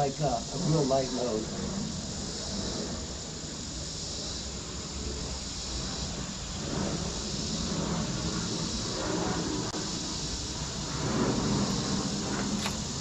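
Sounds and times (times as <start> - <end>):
insect chorus: 0.0 - 13.0
wind rumble on microphone: 0.0 - 13.0.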